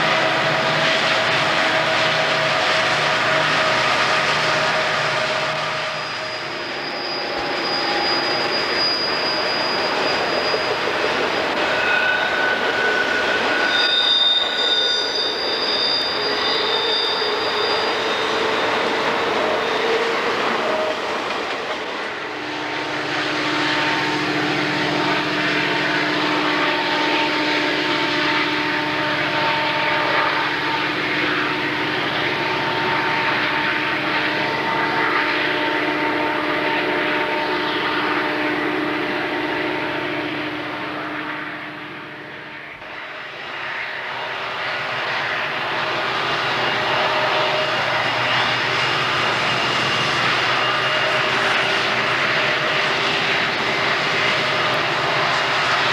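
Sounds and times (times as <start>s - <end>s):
diesel locomotive engine drone: 0.0s - 55.9s
steel wheels squealing on rail: 0.0s - 55.9s
train rolling noise: 0.0s - 55.9s.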